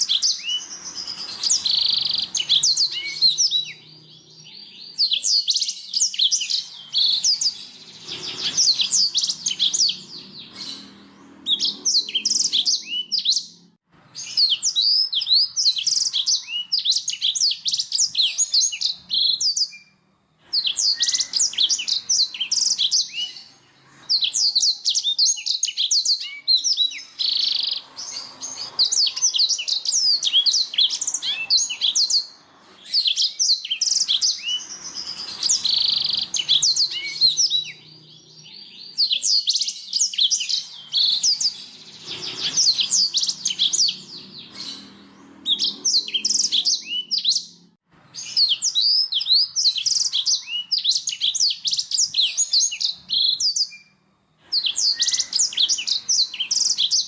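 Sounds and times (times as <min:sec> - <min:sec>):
canary singing chirps and trills: 0:00.0 - 0:57.0.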